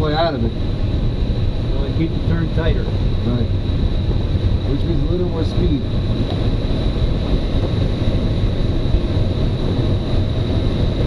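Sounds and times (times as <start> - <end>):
rush of air over glider: 0.0 - 11.0.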